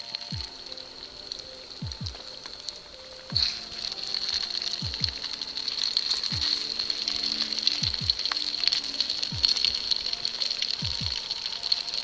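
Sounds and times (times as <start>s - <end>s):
background music: 0.0s - 12.0s
hot oil sizzling: 0.0s - 12.0s.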